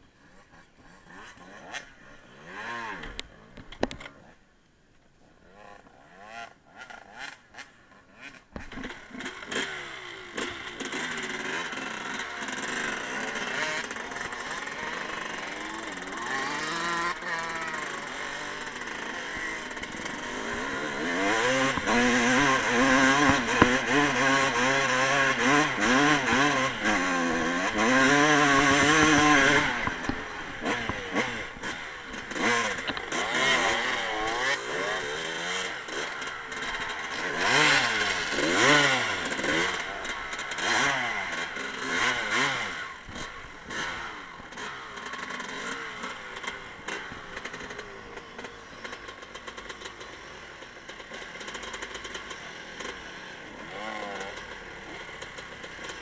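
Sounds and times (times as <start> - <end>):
dirt bike engine revving: 0.2 - 3.6, 5.5 - 56.0.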